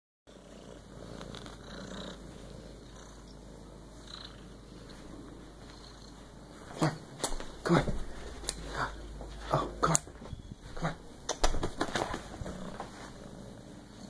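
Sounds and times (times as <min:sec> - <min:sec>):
kitten purring: 0:00.3 - 0:07.0, 0:08.3 - 0:14.0.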